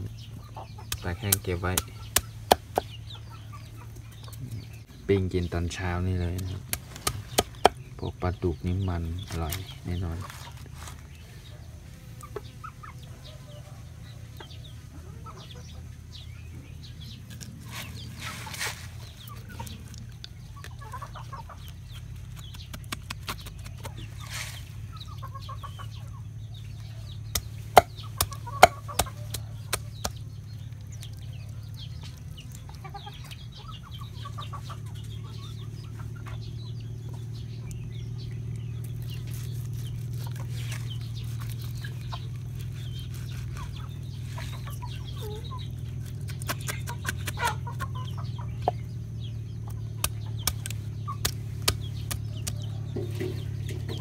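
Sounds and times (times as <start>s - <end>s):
chickens clucking: 0.0s - 54.0s
low steady hum: 0.0s - 54.0s.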